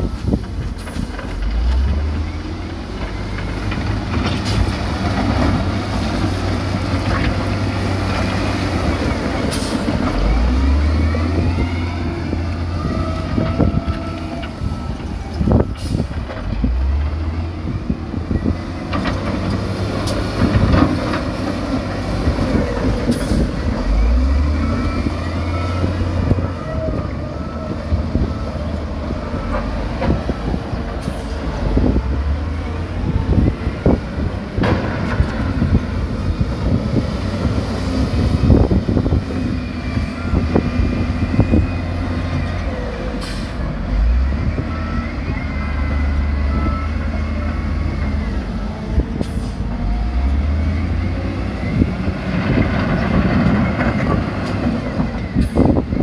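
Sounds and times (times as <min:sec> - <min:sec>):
heavy diesel engines: 0:00.0 - 0:56.0.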